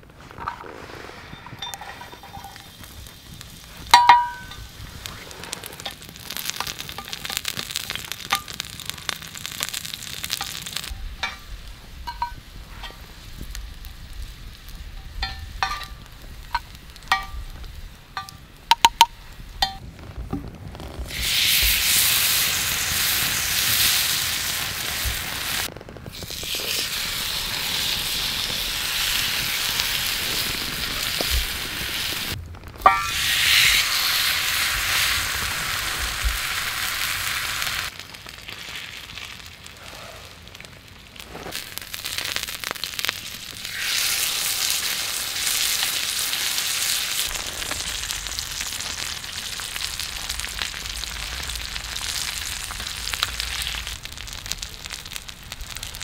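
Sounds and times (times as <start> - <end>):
garlic sizzling in oil: 1.8 - 19.4, 21.1 - 39.6, 41.2 - 56.0.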